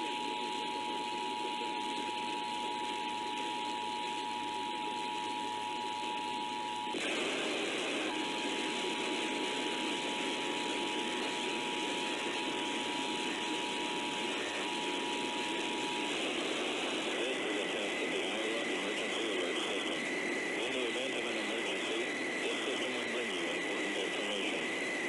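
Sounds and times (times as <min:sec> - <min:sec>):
radio hiss and static: 0:00.0 - 0:25.0.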